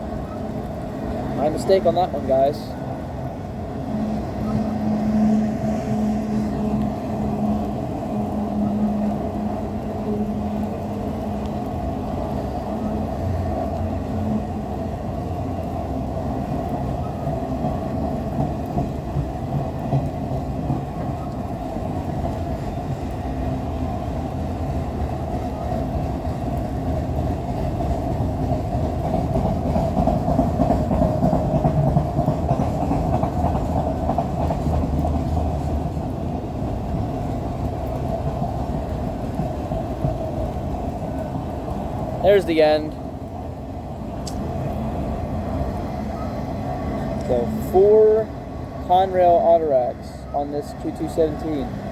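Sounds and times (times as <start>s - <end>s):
freight train rolling past: 0.0s - 51.9s.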